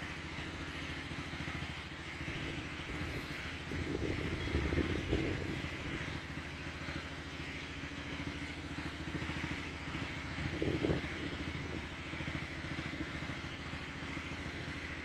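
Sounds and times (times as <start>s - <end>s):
diesel engine chugging: 0.0s - 15.0s.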